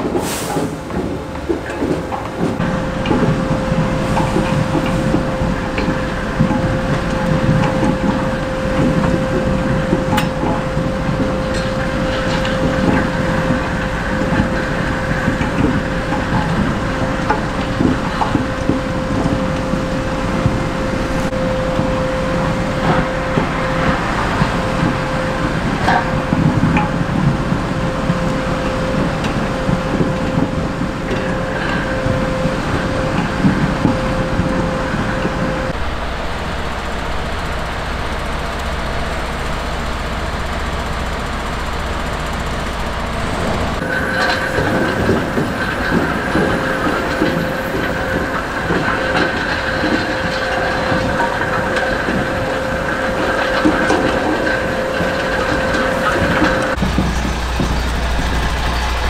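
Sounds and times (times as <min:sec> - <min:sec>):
beet loader machine running: 0:00.0 - 0:59.0
high machine whine: 0:00.0 - 0:59.0.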